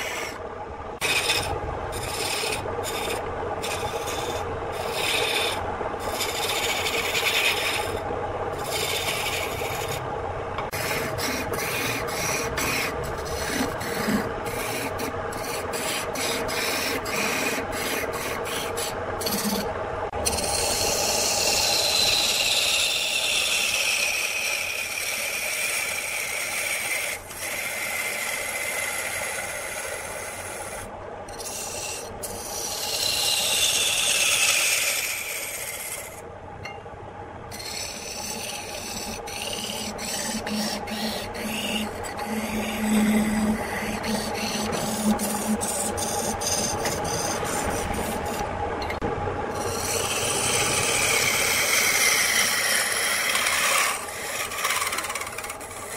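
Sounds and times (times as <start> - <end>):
lathe tool scraping wood: 0.0 - 0.4, 1.0 - 10.0, 10.6 - 36.2, 37.5 - 55.9
low steady hum: 0.0 - 55.9.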